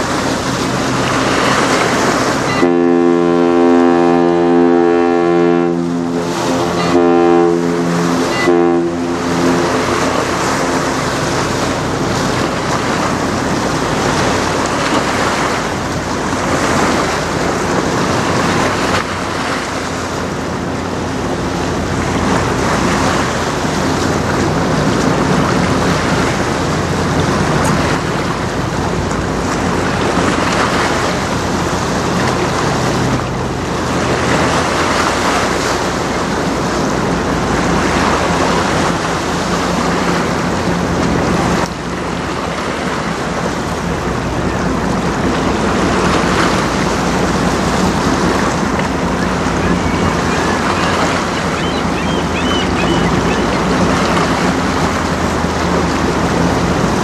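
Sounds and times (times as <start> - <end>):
ship horn blasts: 0.0 - 57.0
water lapping: 0.0 - 57.0.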